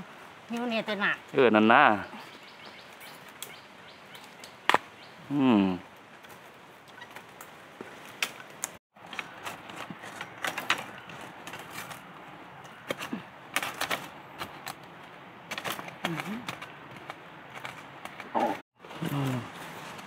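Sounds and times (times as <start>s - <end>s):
dry leaves and twigs crackling: 0.4s - 5.2s, 5.9s - 20.0s.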